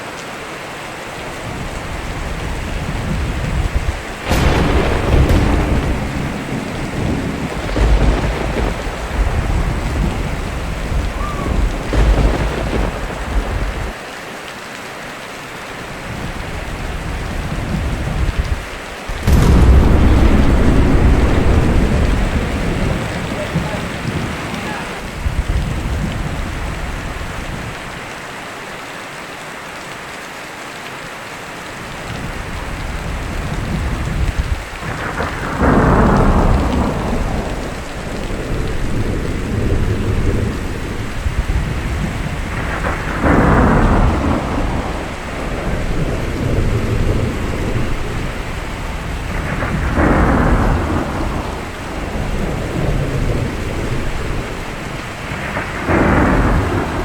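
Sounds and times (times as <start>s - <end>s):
steady rain: 0.0s - 57.0s
thunder rolling: 1.5s - 14.2s, 16.1s - 27.7s, 32.1s - 57.0s.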